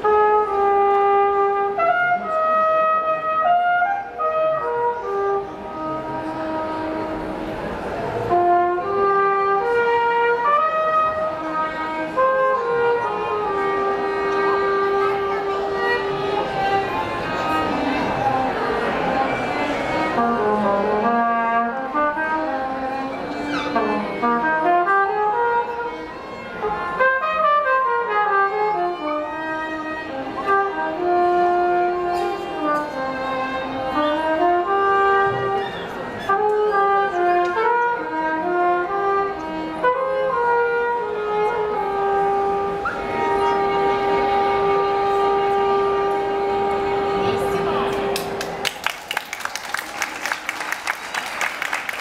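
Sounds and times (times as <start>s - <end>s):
violin: 0.0s - 48.7s
trumpet: 0.0s - 52.0s.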